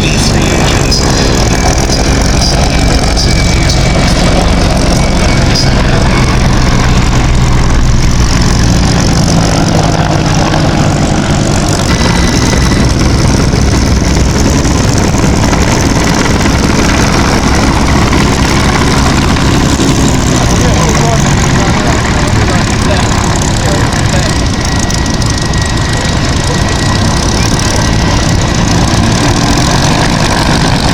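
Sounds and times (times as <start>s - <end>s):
helicopter running: 0.0s - 30.9s.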